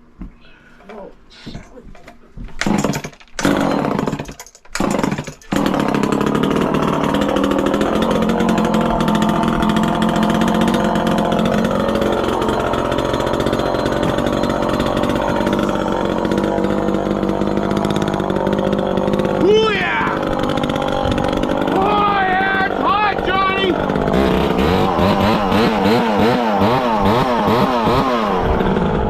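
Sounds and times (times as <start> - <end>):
chainsaw engine running: 2.6 - 29.0.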